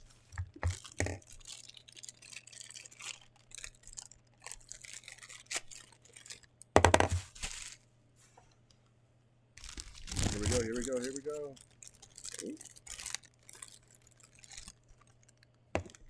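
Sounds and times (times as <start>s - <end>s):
packaging rustling and crinkling: 0.0s - 7.9s, 9.6s - 16.0s.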